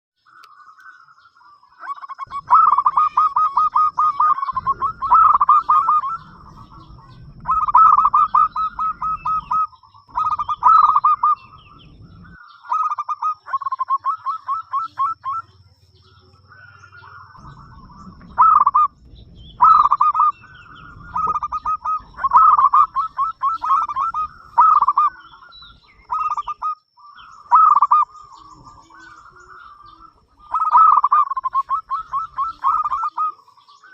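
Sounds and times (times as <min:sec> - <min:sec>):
dove cooing: 0:01.6 - 0:33.9.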